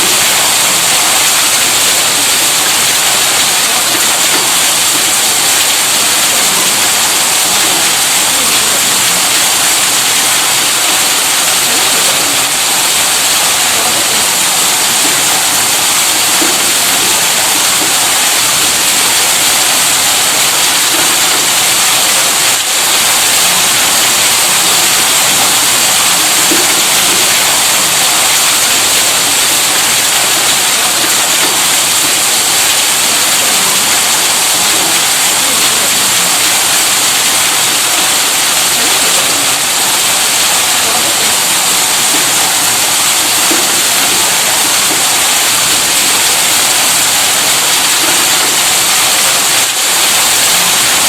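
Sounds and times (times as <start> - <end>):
pump water rushing hiss: 0.0 - 51.0.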